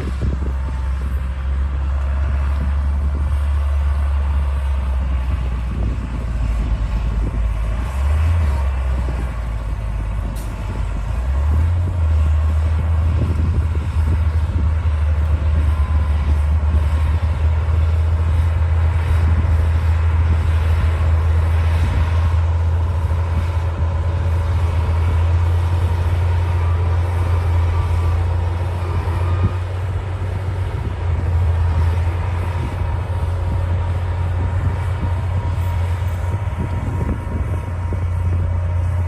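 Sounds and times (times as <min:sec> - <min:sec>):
bulldozer diesel engine droning: 0:00.0 - 0:39.0.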